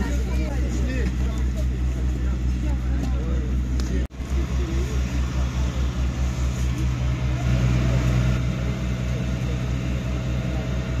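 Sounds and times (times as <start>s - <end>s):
faint voices: 0.0s - 11.0s
vehicle engine idling: 0.0s - 11.0s.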